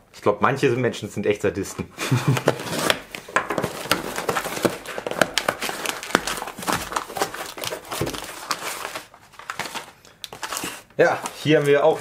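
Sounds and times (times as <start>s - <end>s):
packing paper crinkling: 2.1s - 12.0s
cardboard flaps scraping: 2.3s - 12.0s.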